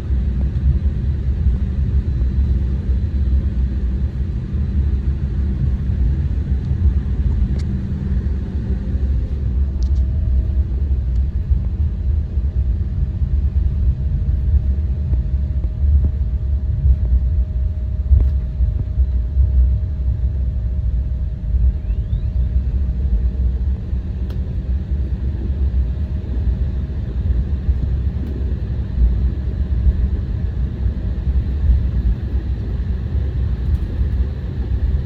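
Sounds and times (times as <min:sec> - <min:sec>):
airliner engines and wheels rumbling: 0:00.0 - 0:35.0.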